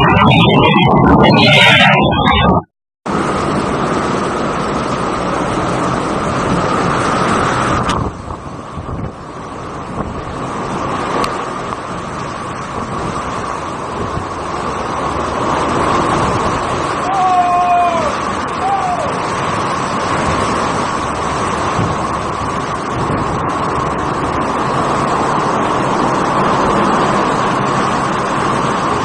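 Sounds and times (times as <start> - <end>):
storm wind and water rushing: 0.0 - 29.0
wind buffeting microphone: 0.0 - 29.0.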